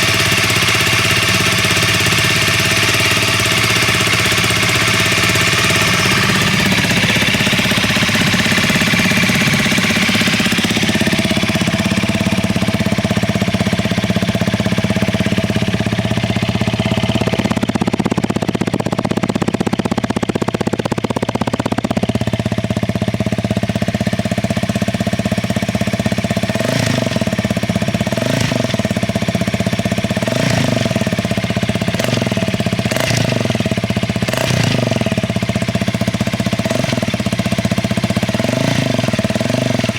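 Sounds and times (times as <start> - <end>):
engine throttle blips: 0.0 - 23.9, 26.0 - 39.9
motorcycle engine idling: 0.0 - 39.9.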